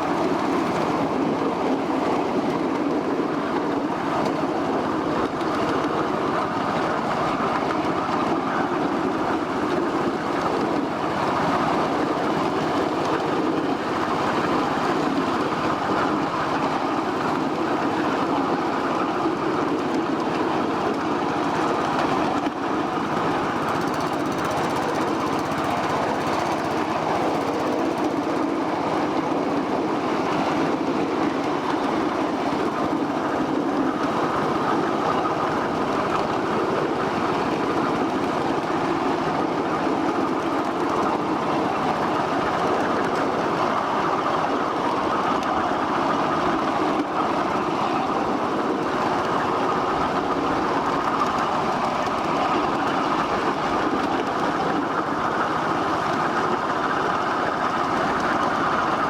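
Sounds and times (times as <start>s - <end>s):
miniature train running on track: 0.0s - 59.0s.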